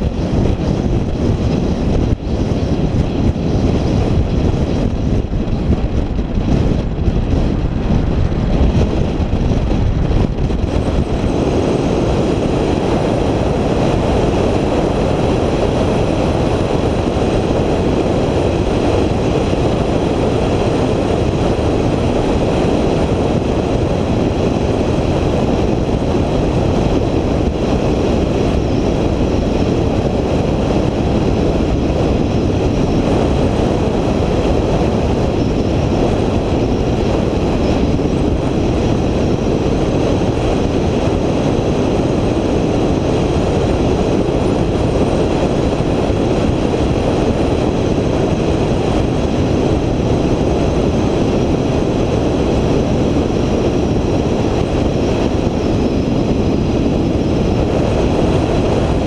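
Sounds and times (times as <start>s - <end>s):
vehicle rumble with road noise: 0.0s - 59.0s.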